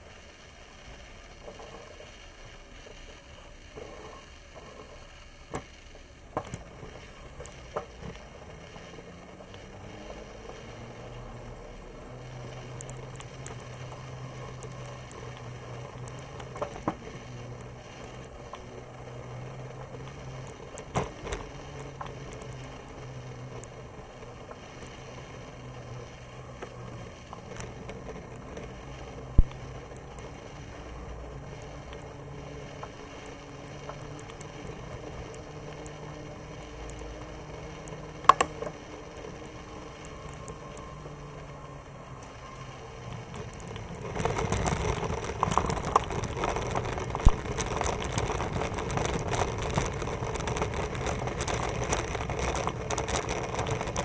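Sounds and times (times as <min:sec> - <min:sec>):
bicycle rolling on concrete: 0:00.0 - 0:54.0.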